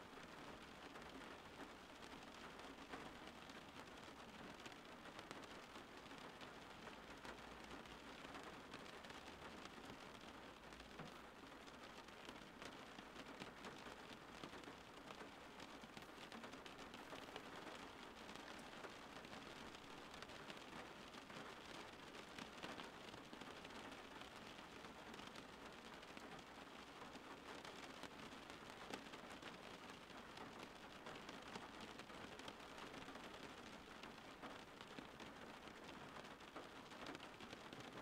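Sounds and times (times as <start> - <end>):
rain on car windshield: 0.0 - 38.0.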